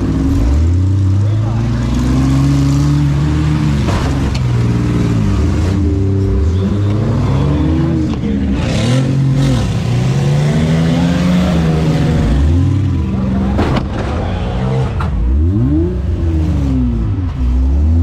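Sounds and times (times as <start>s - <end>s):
van engine revving: 0.0s - 18.0s.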